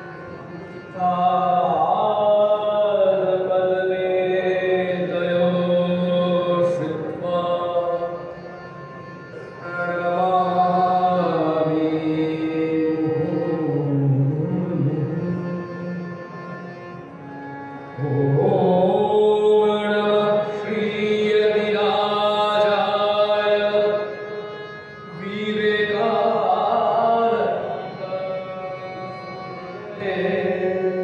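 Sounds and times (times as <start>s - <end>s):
harmonium: 0.0s - 31.0s
man singing devotional song: 0.9s - 8.4s, 9.6s - 16.3s, 18.0s - 31.0s.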